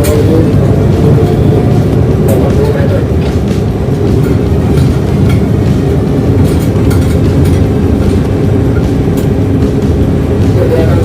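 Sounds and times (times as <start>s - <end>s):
ship engine low rumble: 0.0s - 11.0s.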